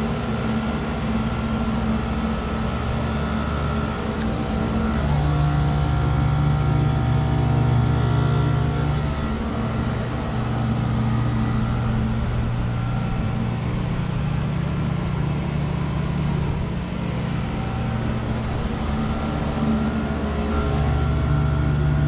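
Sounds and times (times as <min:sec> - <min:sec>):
heat pump compressor hum: 0:00.0 - 0:22.0.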